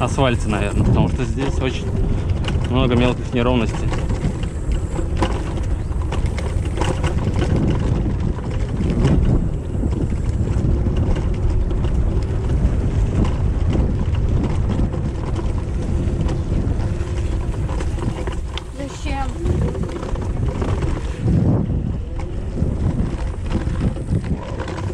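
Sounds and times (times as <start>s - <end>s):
scooter frame rattling: 0.0s - 24.9s
tyres rumbling over stony ground: 0.0s - 24.9s
wind on microphone: 0.0s - 24.9s.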